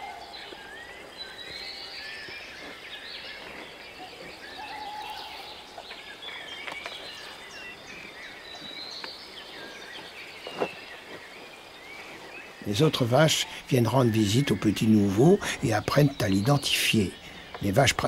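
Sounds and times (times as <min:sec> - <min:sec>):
small birds chirping and singing: 0:00.0 - 0:18.0
steady outdoor hiss: 0:00.0 - 0:18.0.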